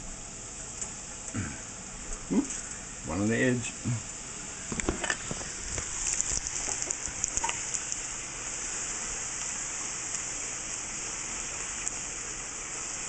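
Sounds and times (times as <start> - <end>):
dough sizzling in hot oil: 0.0 - 13.0.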